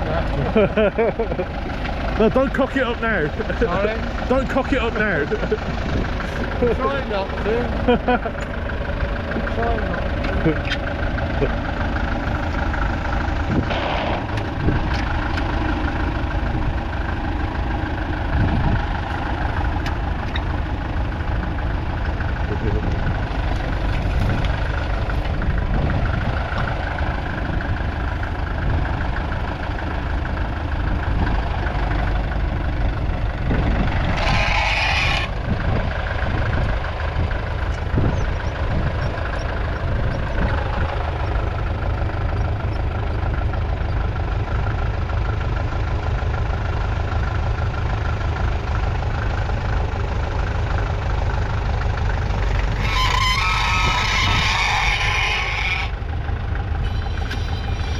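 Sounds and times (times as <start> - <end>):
diesel tractor engine chugging: 0.0 - 57.9.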